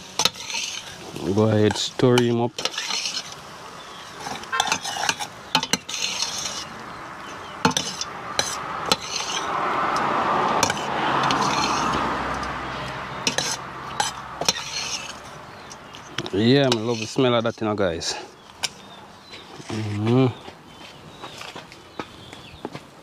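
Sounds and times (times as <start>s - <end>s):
metal spoon scraping pot: 0.0s - 20.0s.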